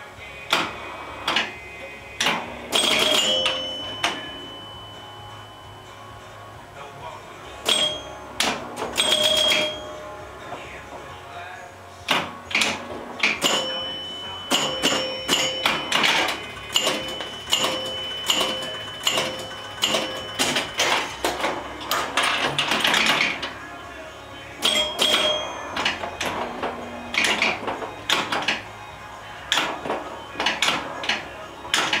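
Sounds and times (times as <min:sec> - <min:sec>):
pinball machine clatter: 0:00.5 - 0:04.9, 0:07.6 - 0:10.8, 0:12.1 - 0:23.8, 0:24.6 - 0:28.8, 0:29.4 - 0:32.0
pinball chime ringing: 0:01.3 - 0:06.2, 0:07.6 - 0:10.7, 0:12.3 - 0:23.7, 0:24.6 - 0:32.0.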